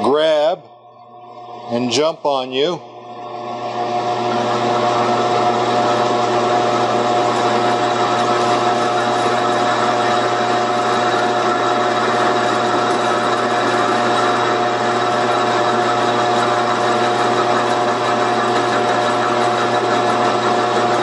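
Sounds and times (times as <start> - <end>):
metal lathe whining: 0.0 - 21.0.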